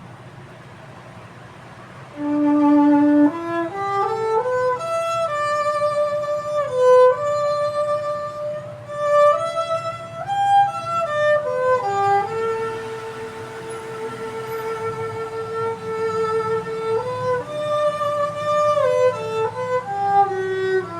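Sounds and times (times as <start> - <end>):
bowed string instrument melody: 2.0 - 20.9.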